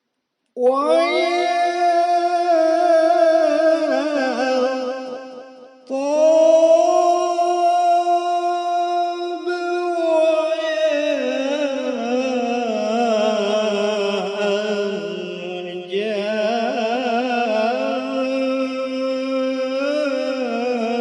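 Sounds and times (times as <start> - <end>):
solo voice chanting: 0.6 - 21.0.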